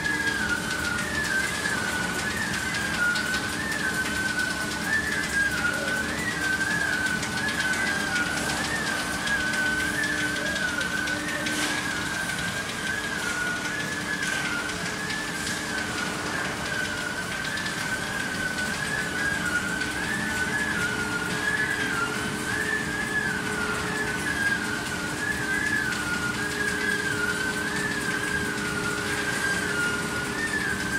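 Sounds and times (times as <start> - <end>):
machine high whine: 0.0 - 30.9.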